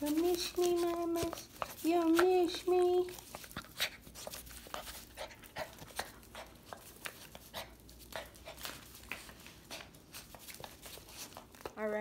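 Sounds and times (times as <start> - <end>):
light clicks and scuffs: 0.0 - 12.0
small dog panting: 0.1 - 11.5.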